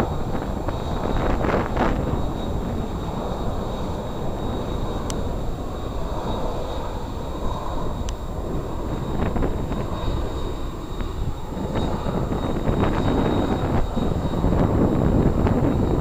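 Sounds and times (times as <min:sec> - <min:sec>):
jet engines rumbling with whine: 0:00.0 - 0:16.0
wind on microphone: 0:00.0 - 0:16.0.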